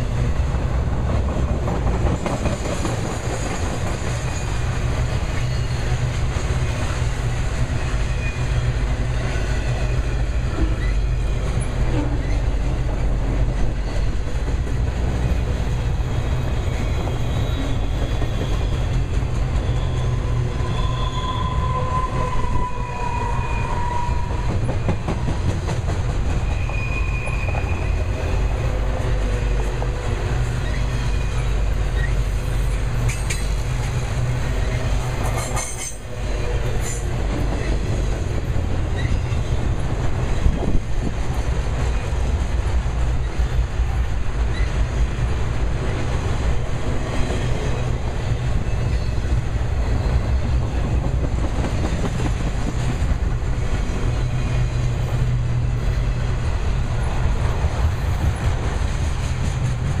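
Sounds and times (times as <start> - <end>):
freight cars rumbling on rail: 0.0 - 60.0.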